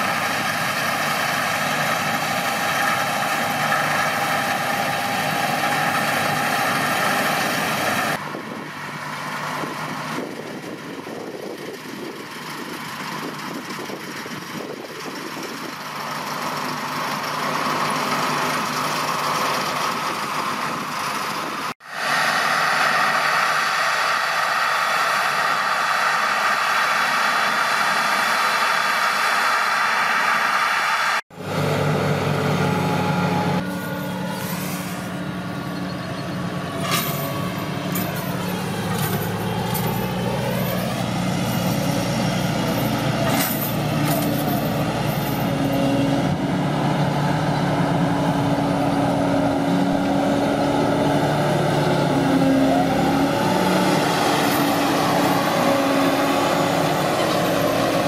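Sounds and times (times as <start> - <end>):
diesel farm machinery running: 0.0 - 58.0
lower engine note: 0.0 - 58.0.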